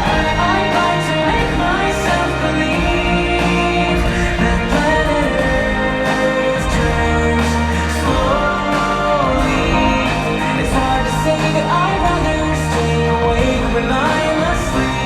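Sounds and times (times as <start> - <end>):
long held bass notes: 0.0 - 15.0
person singing: 0.0 - 15.0.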